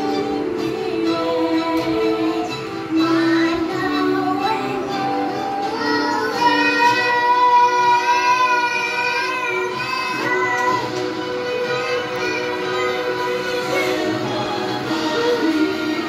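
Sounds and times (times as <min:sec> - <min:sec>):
high voice singing slowly: 0:00.0 - 0:16.0
music: 0:00.0 - 0:16.0.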